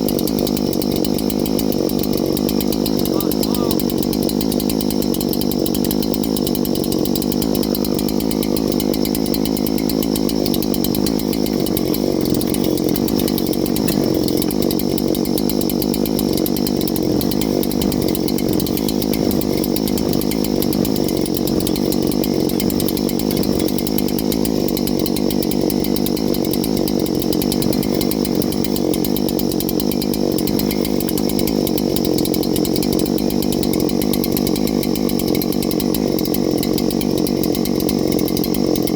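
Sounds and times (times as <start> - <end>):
chainsaw running steadily: 0.0 - 38.9.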